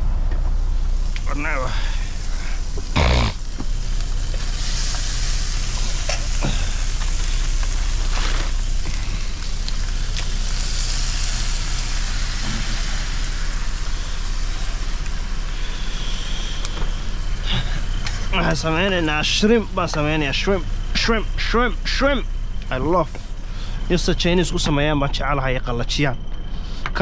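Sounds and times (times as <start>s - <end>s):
constant low hum: 0.0s - 27.0s
shrimp sizzling in a pan: 0.7s - 22.6s.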